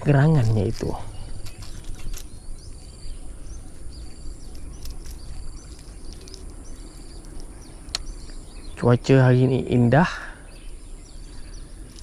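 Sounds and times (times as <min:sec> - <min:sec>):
wind rumble on microphone: 0:00.0 - 0:09.8
small birds chirping: 0:00.0 - 0:12.0.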